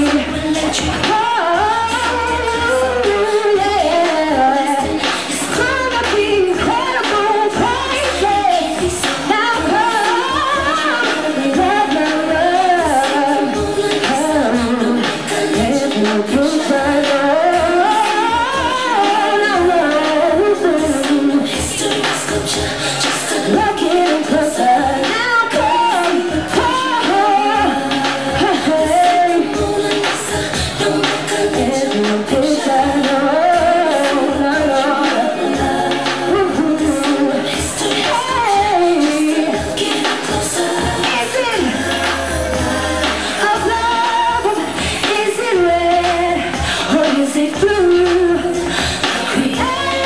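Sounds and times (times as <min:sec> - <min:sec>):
backing track with low beat: 0:00.0 - 0:50.0
woman singing into microphone: 0:00.0 - 0:50.0.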